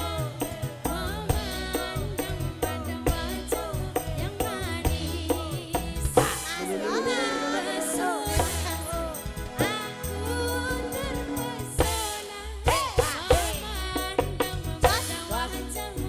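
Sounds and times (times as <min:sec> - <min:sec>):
hand drum quick rhythm: 0:00.0 - 0:06.7, 0:08.3 - 0:16.0.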